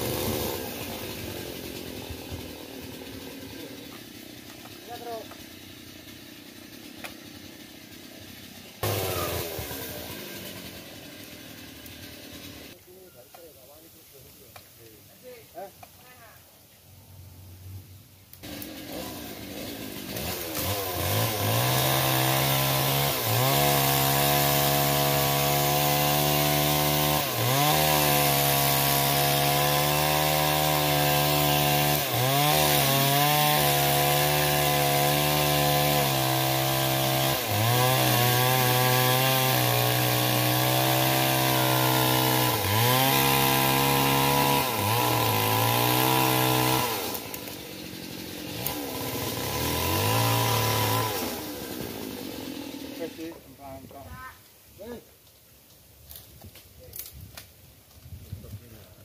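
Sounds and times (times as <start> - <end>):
chainsaw cutting wood: 0.0 - 12.8, 18.4 - 54.0.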